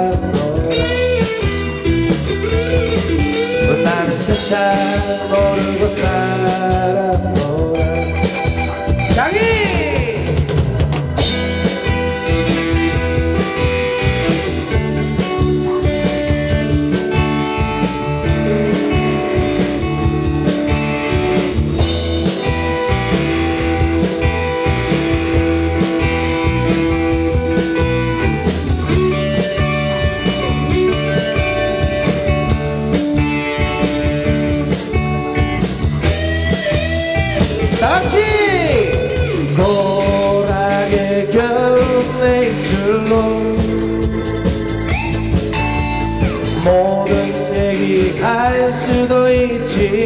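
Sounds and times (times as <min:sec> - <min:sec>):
drum kit beat: 0:00.0 - 0:50.0
electric guitar: 0:00.0 - 0:50.0.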